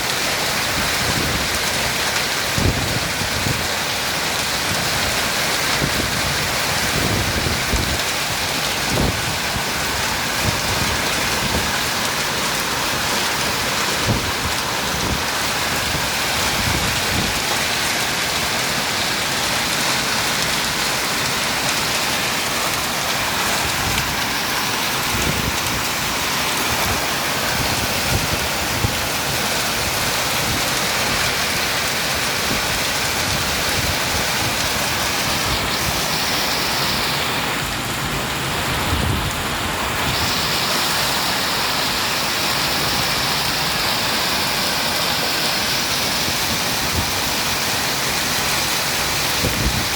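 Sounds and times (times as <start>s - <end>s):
heavy rain and hail hissing: 0.0s - 49.9s.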